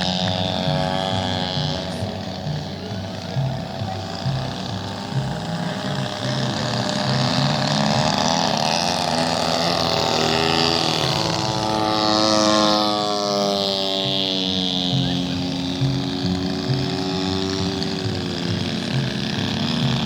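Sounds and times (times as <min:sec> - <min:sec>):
model airplane engine flying past: 0:00.0 - 0:20.0.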